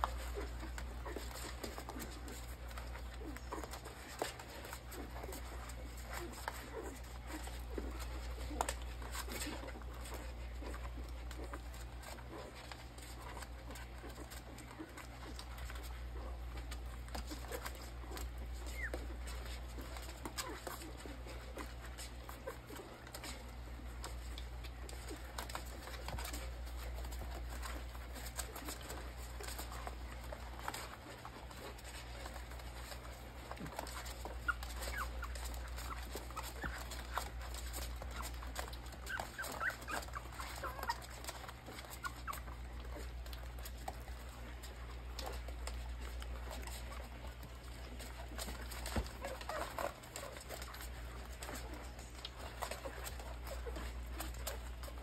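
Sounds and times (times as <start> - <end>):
puppies squeaking and whimpering: 0.0 - 55.0.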